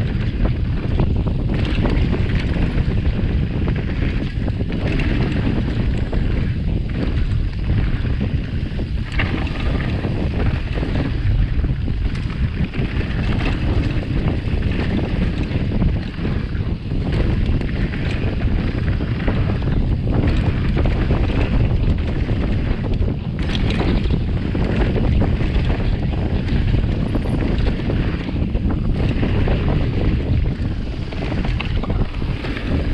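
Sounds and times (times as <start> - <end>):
bike rattling on dirt trail: 0.0 - 32.9
wind buffeting microphone: 0.0 - 32.9.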